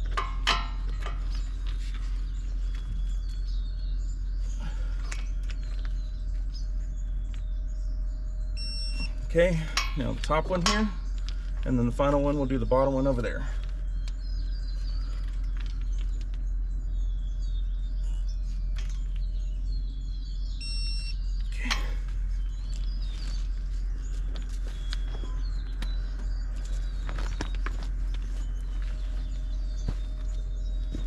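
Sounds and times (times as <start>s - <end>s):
birds chirping: 0.0s - 31.0s
steady low hum: 0.0s - 31.0s.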